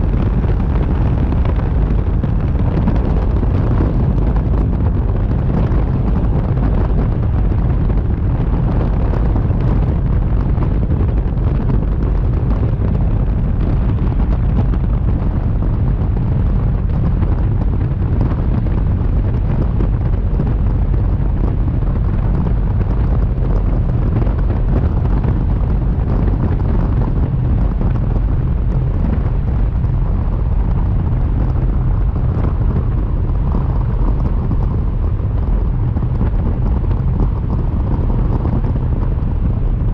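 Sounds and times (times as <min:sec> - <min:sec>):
wind buffeting rumble: 0:00.0 - 0:39.9.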